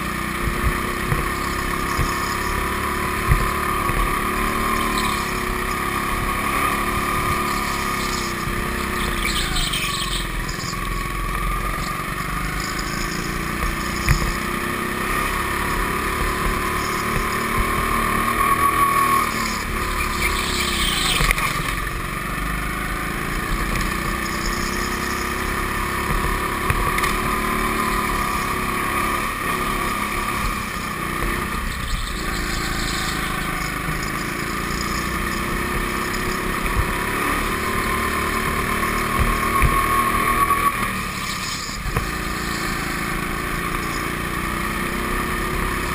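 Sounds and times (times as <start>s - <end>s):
go-kart motor at speed: 0.0s - 45.9s.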